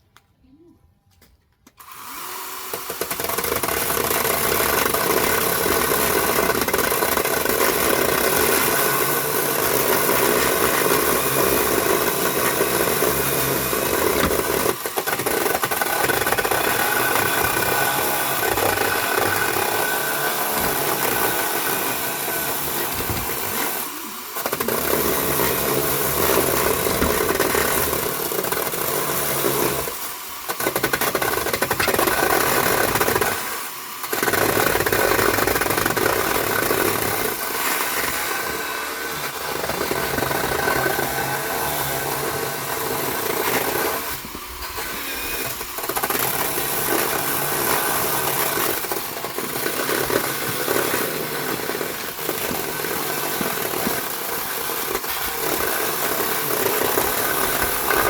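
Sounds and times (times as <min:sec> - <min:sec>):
power driver driving screws: 0:01.7 - 0:58.0.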